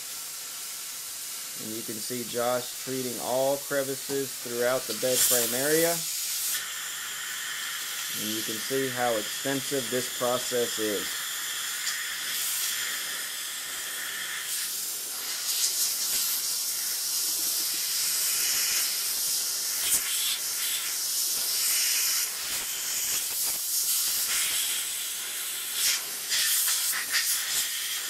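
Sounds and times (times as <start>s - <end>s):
steamer nozzle hissing: 0.0s - 28.0s.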